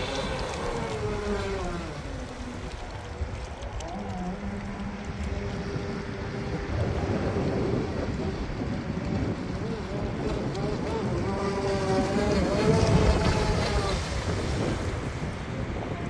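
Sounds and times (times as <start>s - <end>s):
boat on choppy water: 0.0s - 16.0s
speedboat motor whining: 0.0s - 16.0s
wind buffeting microphone: 0.0s - 16.0s.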